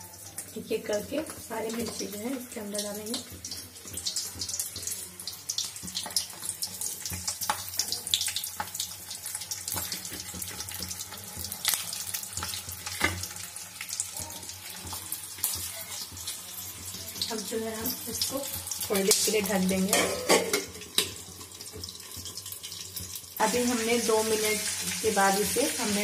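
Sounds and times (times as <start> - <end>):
chillies sizzling in hot oil: 0.0 - 26.0.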